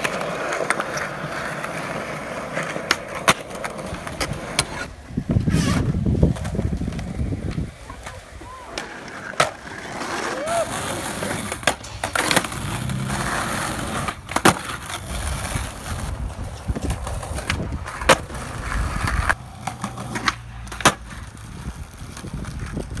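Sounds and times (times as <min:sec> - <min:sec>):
skateboard deck clacking: 0:00.0 - 0:23.0
skateboard wheels rolling on concrete: 0:00.0 - 0:23.0.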